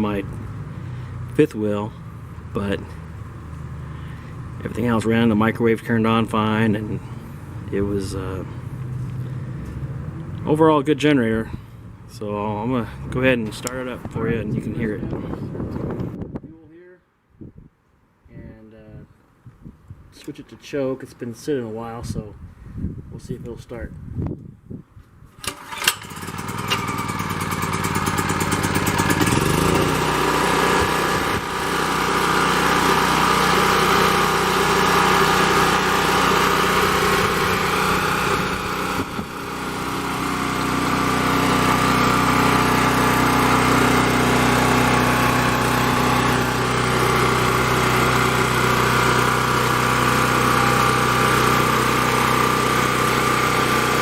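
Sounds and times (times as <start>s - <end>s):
generator pull start: 0.0s - 15.2s, 25.4s - 54.0s
generator engine running: 0.0s - 16.0s, 25.5s - 54.0s.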